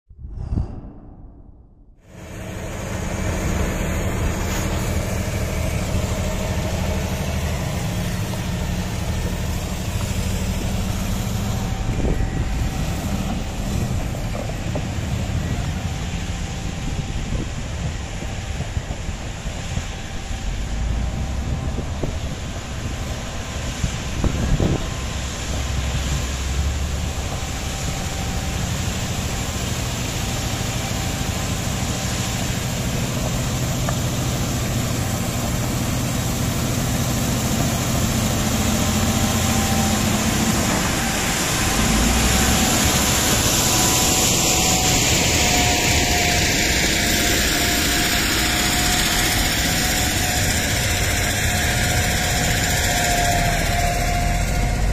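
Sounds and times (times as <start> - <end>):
steady whine: 0.1 - 54.9
bulldozer diesel engine running: 2.0 - 54.9.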